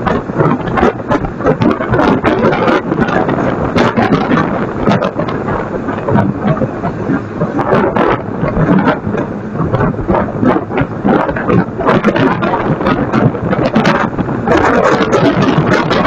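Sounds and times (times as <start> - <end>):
loud dense crackling: 0.0 - 16.0.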